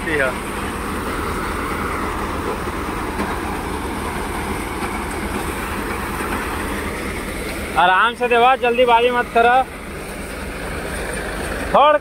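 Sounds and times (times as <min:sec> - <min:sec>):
paddy thresher running: 0:00.0 - 0:12.0
tractor diesel engine: 0:00.0 - 0:12.0.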